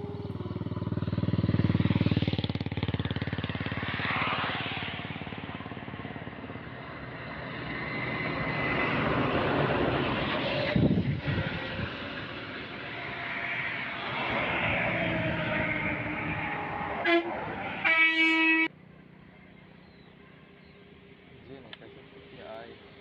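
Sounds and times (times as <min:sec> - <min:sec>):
motor vehicle engine on road: 0:00.0 - 0:23.0.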